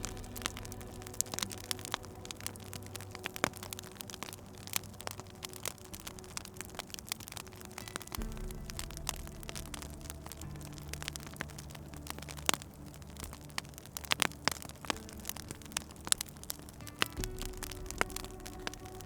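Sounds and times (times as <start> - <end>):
low steady hum: 0.0 - 19.0
sharp pops from fire: 0.0 - 19.0
wood fire crackling: 0.0 - 19.0.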